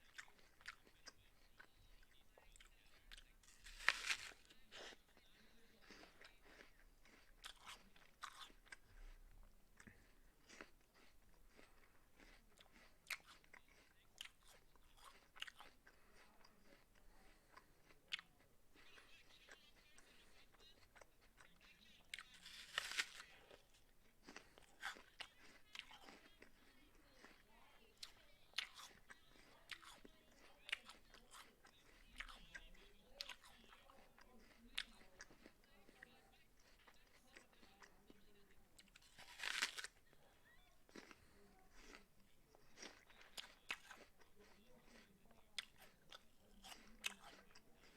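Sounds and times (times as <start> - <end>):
person chewing an apple: 0.0 - 47.9.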